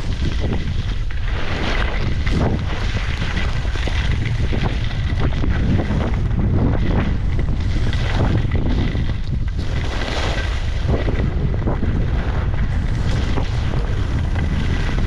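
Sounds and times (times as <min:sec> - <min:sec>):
skis scraping over snow: 0:00.0 - 0:15.0
wind buffeting microphone: 0:00.0 - 0:15.0.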